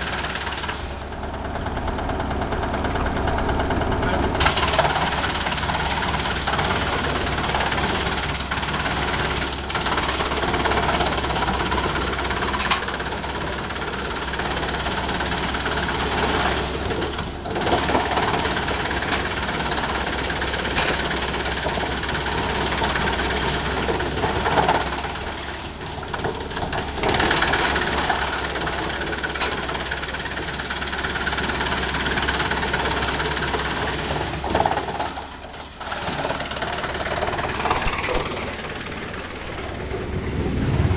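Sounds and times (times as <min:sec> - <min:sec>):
tractor engine drone: 0:00.0 - 0:40.9
wood chipper chipping logs: 0:00.0 - 0:40.9.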